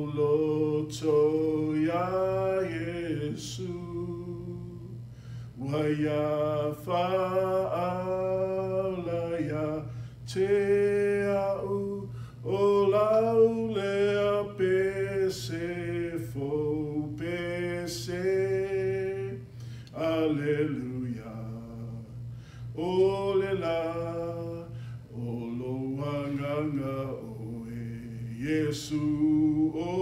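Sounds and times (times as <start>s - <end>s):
man singing a hymn: 0.0s - 5.0s, 5.6s - 30.0s.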